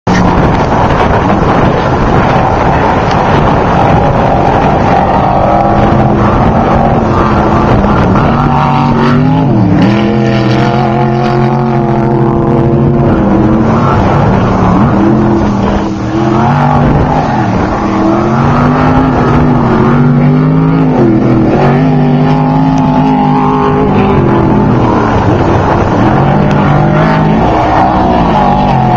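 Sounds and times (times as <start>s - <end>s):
off-road vehicle engine revving: 0.1s - 28.9s.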